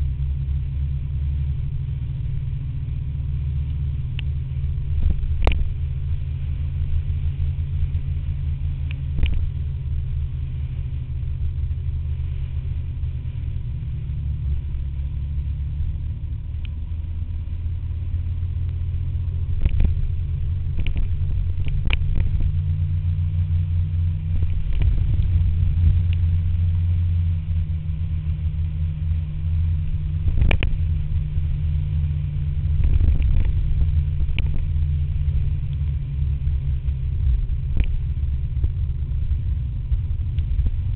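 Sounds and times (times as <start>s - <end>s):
scooter engine rumble: 0.0s - 40.9s.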